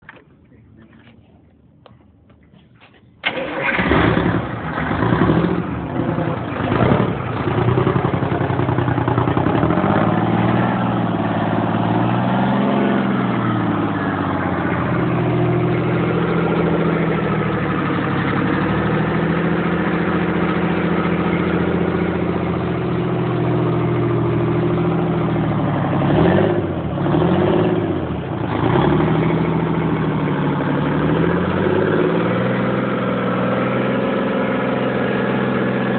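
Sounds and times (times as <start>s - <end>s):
diesel engine starting and idling: 3.2s - 35.9s
engine revving: 3.2s - 35.9s.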